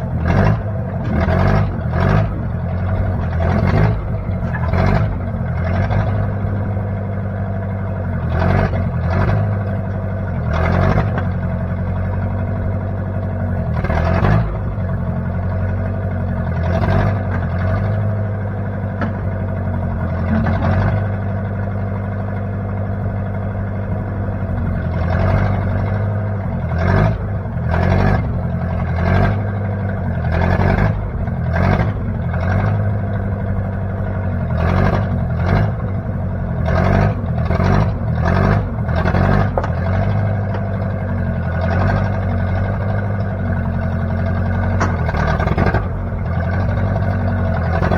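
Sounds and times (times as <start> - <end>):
backhoe engine running: 0.0 - 47.9.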